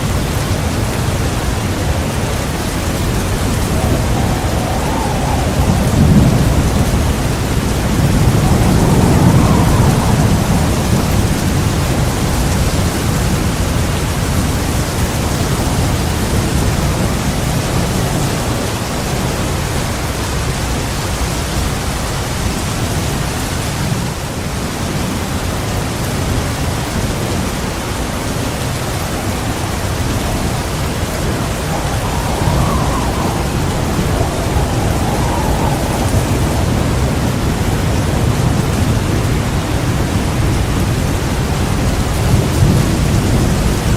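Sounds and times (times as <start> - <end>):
low rolling thunder: 0.0 - 22.2, 26.2 - 43.9
heavy rain falling: 0.0 - 43.9.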